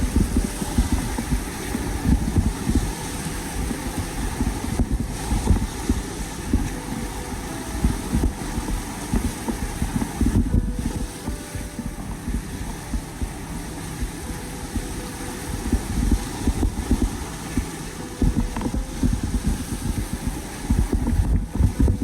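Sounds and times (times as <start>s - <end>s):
faint steady hiss: 0.0s - 22.0s
wind buffeting microphone: 0.0s - 22.0s.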